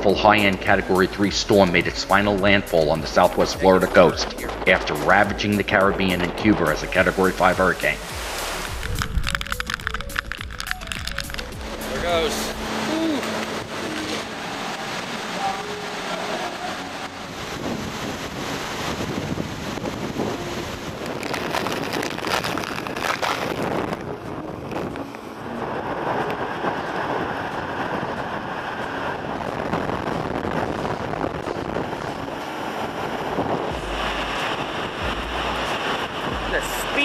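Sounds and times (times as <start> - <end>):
driving rain: 0.0 - 37.0
hurricane winds: 0.0 - 37.0
wind buffeting microphone: 0.0 - 37.0.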